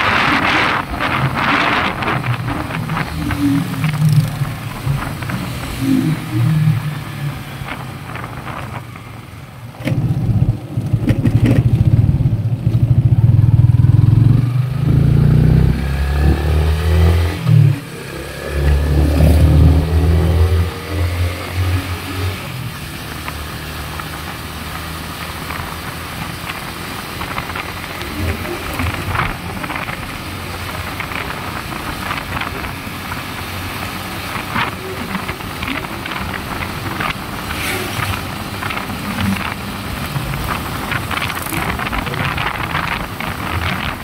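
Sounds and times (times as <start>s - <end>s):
motorcycle engine running: 0.0s - 16.5s, 17.3s - 44.0s
wind rumble on microphone: 0.0s - 44.0s.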